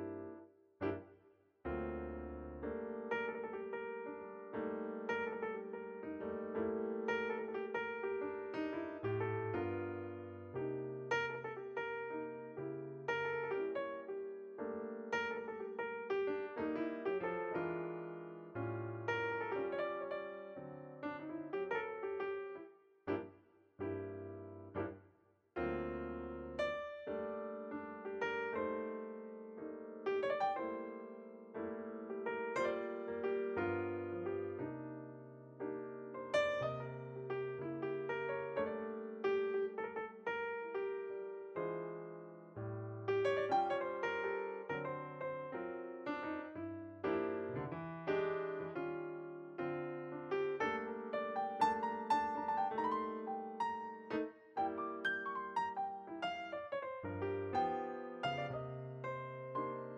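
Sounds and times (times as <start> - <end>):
gentle piano melody: 0.0 - 1.1, 1.7 - 25.0, 25.6 - 59.9.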